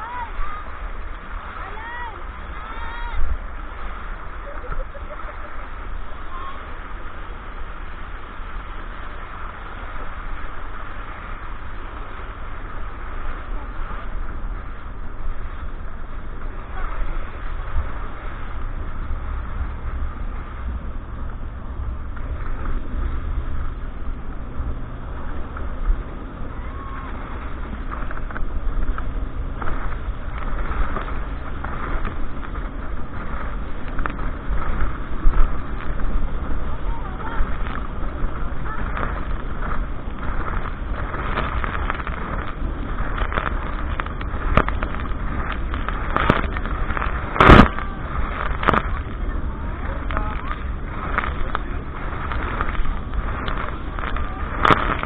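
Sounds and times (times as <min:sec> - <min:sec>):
faint voices: 0:00.0 - 0:55.0
motorboat engine running: 0:00.0 - 0:55.0
rush of wind and water: 0:00.0 - 0:55.0
wind rumble on microphone: 0:00.0 - 0:55.0.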